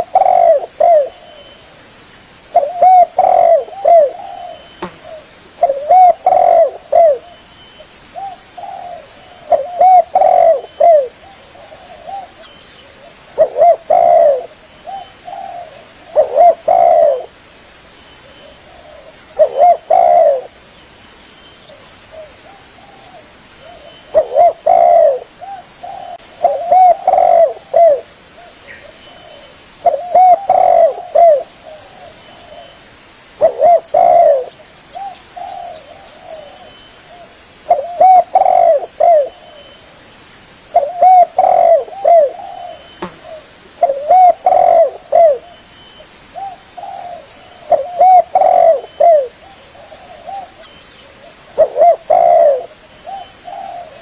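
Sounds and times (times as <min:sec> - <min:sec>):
dove cooing: 0:00.0 - 0:01.6, 0:02.5 - 0:07.4, 0:08.2 - 0:17.4, 0:18.2 - 0:20.6, 0:21.7 - 0:32.8, 0:33.4 - 0:39.8, 0:40.7 - 0:45.7, 0:46.4 - 0:54.0.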